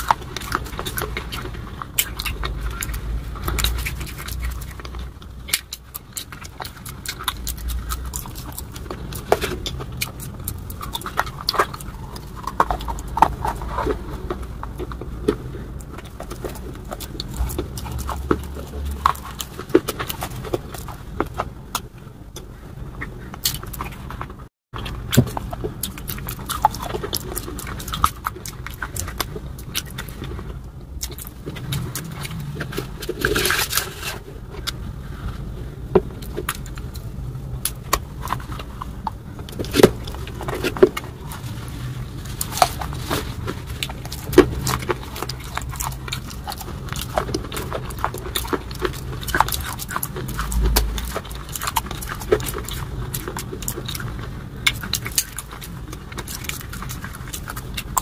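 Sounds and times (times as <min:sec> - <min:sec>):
crunchy chewing: 0:00.0 - 0:58.0
steady low hum: 0:00.0 - 0:58.0.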